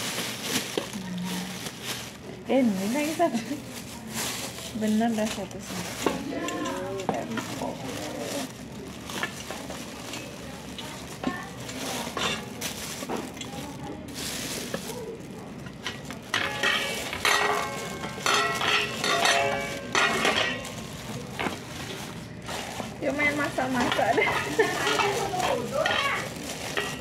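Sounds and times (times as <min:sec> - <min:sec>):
plastic bags crinkling: 0:00.0 - 0:27.0.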